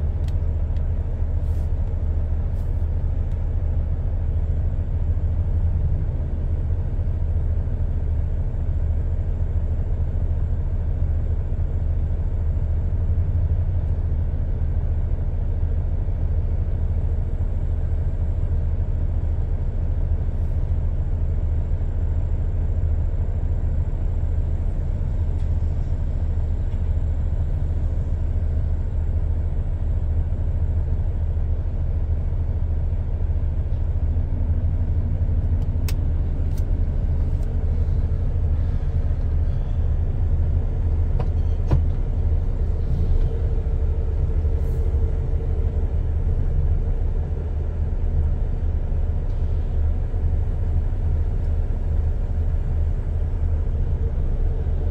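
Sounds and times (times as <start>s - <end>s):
lorry engine idling: 0.0s - 54.9s.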